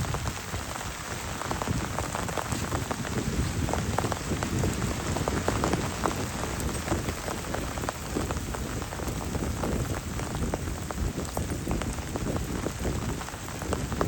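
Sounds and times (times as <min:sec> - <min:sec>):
heavy rain falling: 0:00.0 - 0:14.0
raindrops striking close by: 0:00.0 - 0:14.0.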